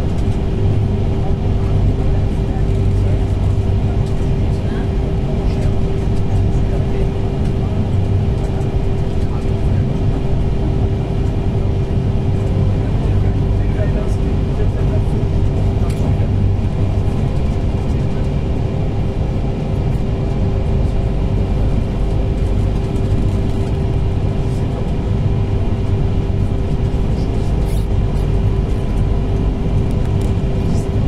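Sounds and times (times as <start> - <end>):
constant hum: 0.0 - 31.0.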